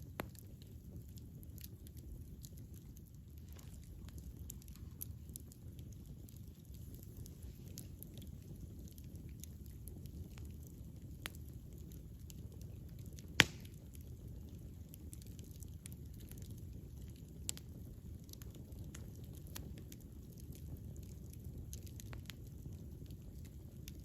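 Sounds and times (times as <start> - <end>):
campfire burning: 0.0 - 24.0
fire popping: 0.0 - 24.0.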